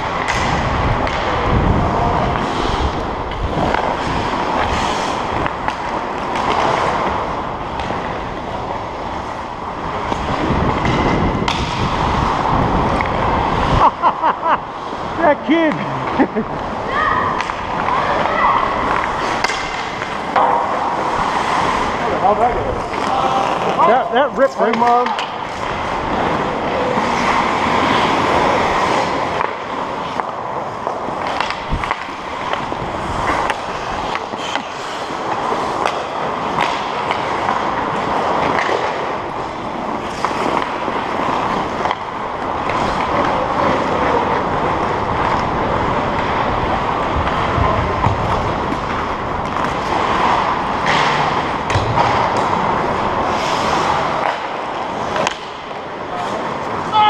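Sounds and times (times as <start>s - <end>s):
skates scraping across ice: 0.0s - 57.0s.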